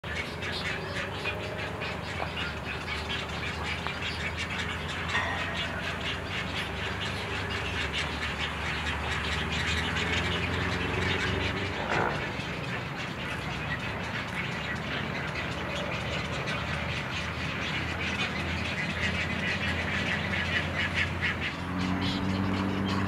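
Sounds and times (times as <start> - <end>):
egrets calling: 0.1 - 23.0.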